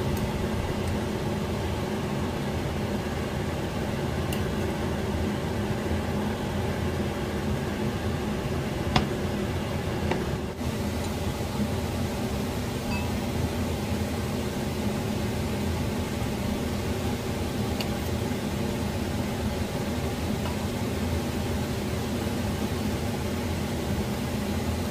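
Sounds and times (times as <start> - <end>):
fan hum: 0.0 - 24.9.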